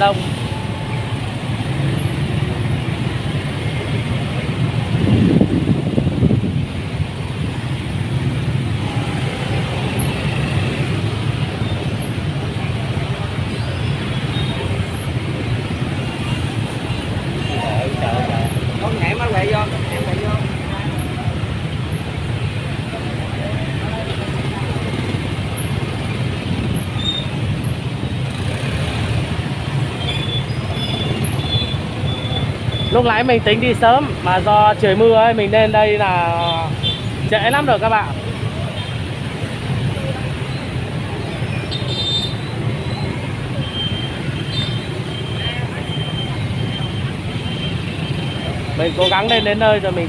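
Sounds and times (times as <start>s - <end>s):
motorbike traffic rumble: 0.0s - 50.0s.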